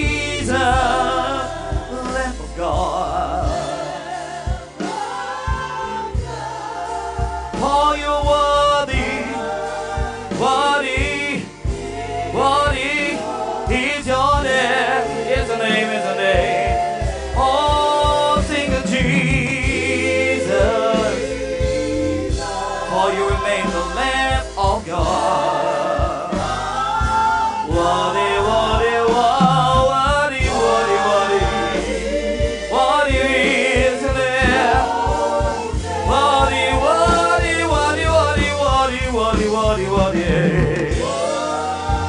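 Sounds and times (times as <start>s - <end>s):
bass: 0.0s - 42.0s
steady drum beat: 0.0s - 42.0s
voices singing gospel: 0.0s - 42.0s.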